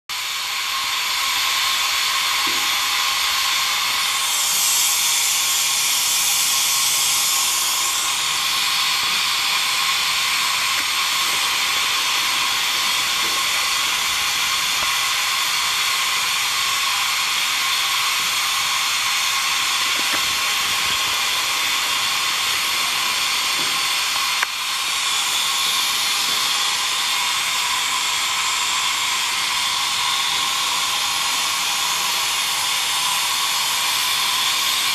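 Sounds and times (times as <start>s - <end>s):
steam hissing from locomotive: 0.1s - 34.9s.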